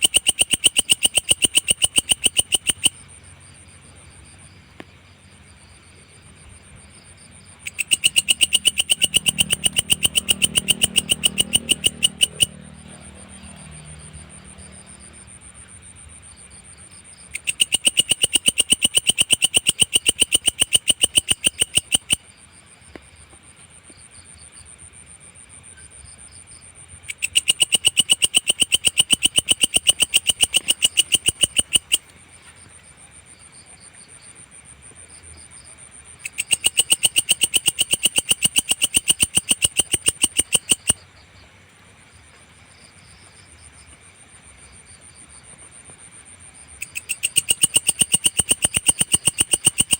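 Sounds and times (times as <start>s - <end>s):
insect high-pitched trill: 0.0s - 41.4s, 42.7s - 49.9s.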